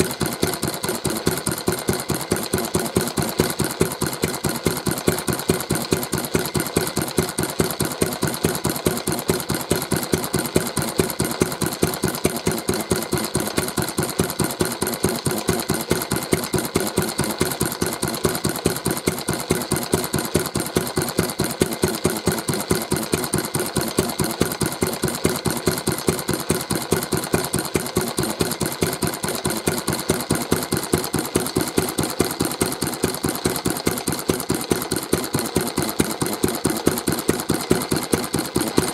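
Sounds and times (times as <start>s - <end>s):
stationary engine idling: 0.0s - 38.9s.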